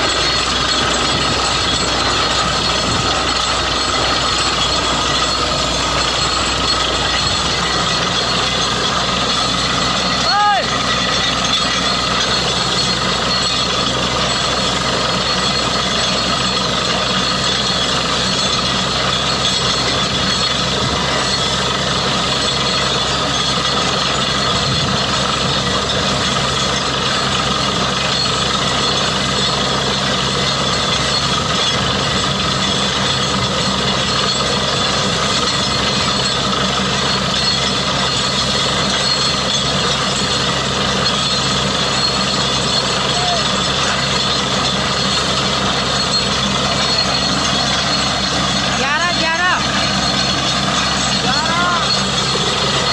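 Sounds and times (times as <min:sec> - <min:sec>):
drilling rig din: 0:00.0 - 0:52.9.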